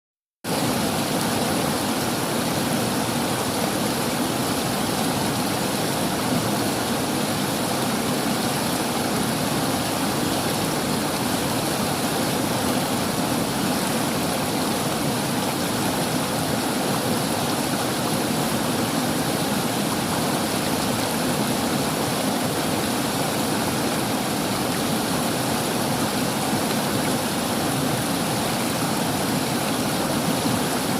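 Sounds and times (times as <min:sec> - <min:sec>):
river water flowing over rocks: 0:00.5 - 0:30.9.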